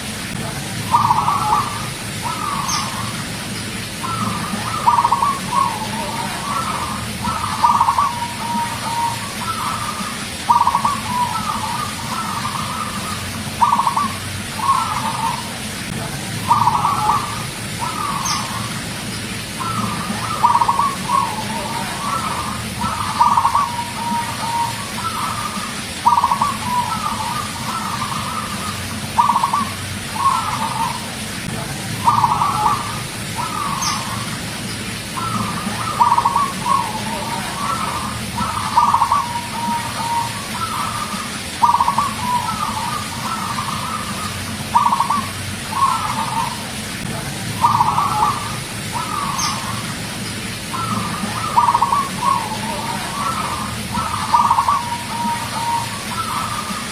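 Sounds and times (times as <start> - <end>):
dove cooing: 0.3 - 56.9.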